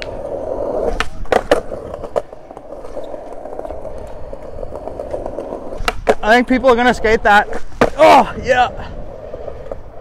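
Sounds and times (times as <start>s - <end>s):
skateboard clacking on concrete: 0.0s - 8.2s
skateboard wheels rolling on concrete: 0.0s - 10.0s.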